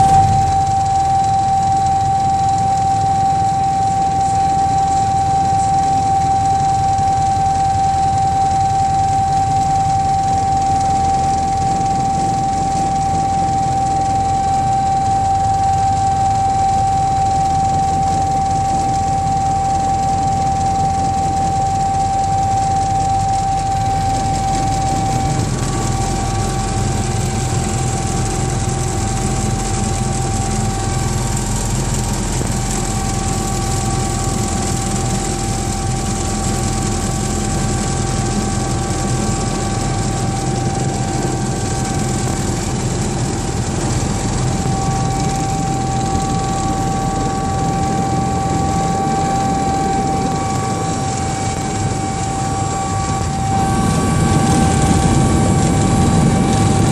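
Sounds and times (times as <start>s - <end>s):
helicopter engine drone: 0.0s - 56.9s
helicopter high whine: 0.0s - 56.9s.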